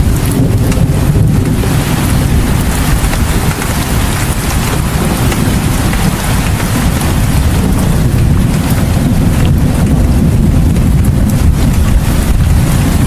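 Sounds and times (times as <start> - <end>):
rain falling steadily: 0.0 - 13.0
strong low rumble: 0.0 - 13.0.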